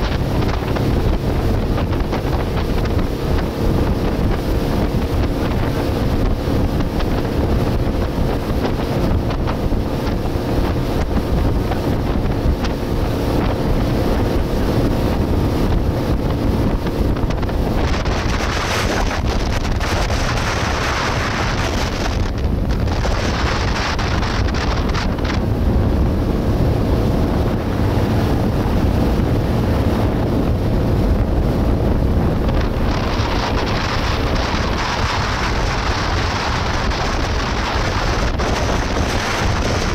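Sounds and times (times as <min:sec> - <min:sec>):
motorboat engine drone: 0:00.0 - 0:39.9
water rushing along hull: 0:00.0 - 0:39.9
wind buffeting microphone: 0:00.0 - 0:39.9.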